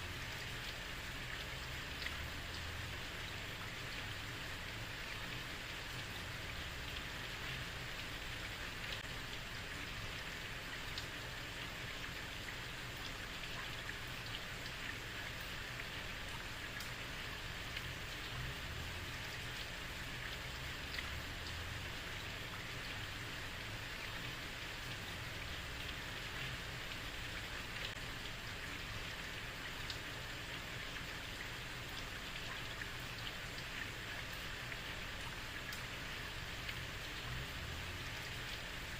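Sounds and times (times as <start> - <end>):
heavy rain on street: 0.0 - 38.9.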